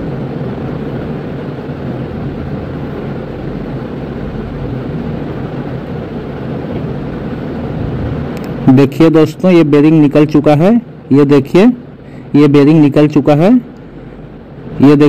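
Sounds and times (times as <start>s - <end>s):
faint low hum: 0.0s - 15.0s
steady rumbling background noise: 0.0s - 15.0s.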